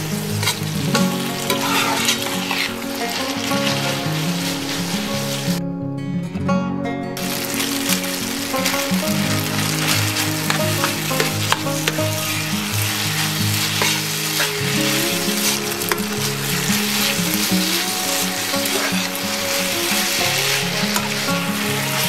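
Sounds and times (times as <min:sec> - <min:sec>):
food sizzling in frying pan: 0:00.0 - 0:05.6, 0:07.2 - 0:22.0
background music: 0:00.0 - 0:22.0.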